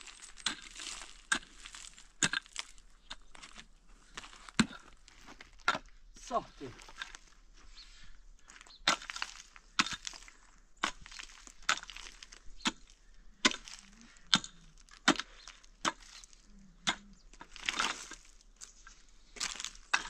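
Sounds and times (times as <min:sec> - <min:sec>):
pickaxe striking stony ground: 0:00.0 - 0:05.9, 0:08.8 - 0:18.4, 0:19.4 - 0:20.0
loosened stones crunching: 0:00.0 - 0:20.0.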